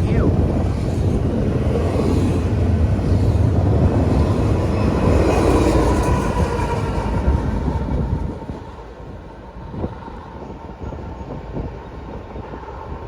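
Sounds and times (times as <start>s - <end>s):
diesel locomotive engine drone: 0.0s - 13.0s
freight train rumble: 0.0s - 13.0s.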